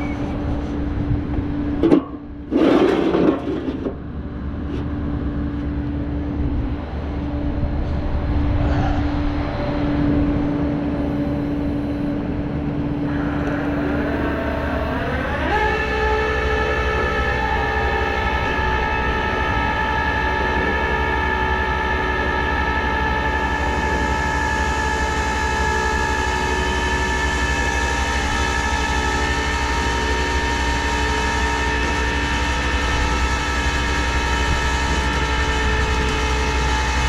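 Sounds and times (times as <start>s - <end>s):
hydraulic pump whining: 0.0s - 6.4s, 13.0s - 37.0s
low engine rumble: 0.0s - 37.0s.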